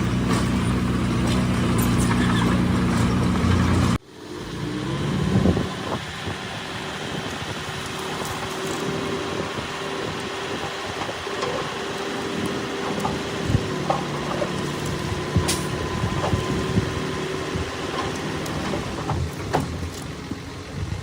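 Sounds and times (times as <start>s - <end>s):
diesel machinery engine drone: 0.0s - 21.0s.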